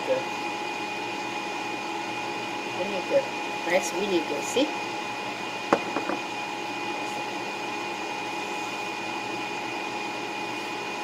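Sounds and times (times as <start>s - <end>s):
mechanical hum with whine: 0.0s - 11.0s.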